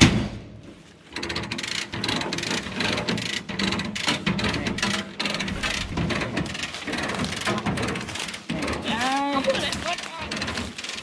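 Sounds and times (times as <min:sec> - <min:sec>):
load chain rattling: 0:01.1 - 0:11.0
ratchet strap clicking: 0:01.1 - 0:11.0.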